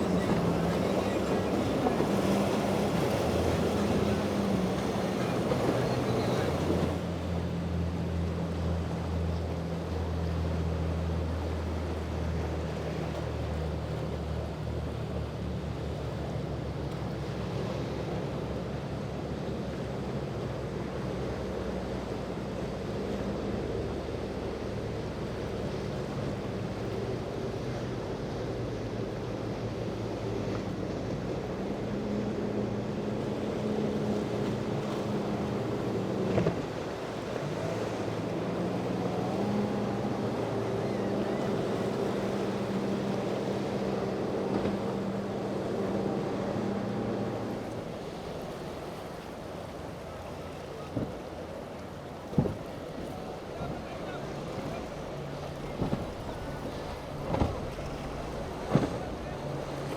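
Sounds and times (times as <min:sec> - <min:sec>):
motorboat engines: 0:00.0 - 0:59.9
waves: 0:00.0 - 0:59.9.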